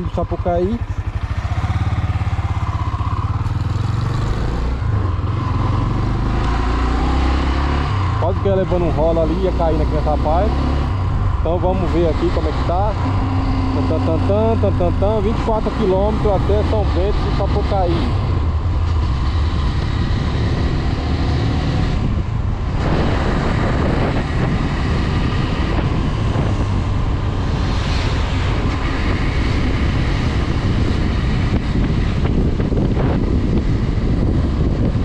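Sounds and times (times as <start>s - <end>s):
motorcycle engine running: 0.0s - 35.0s
wind rushing over microphone: 0.0s - 35.0s.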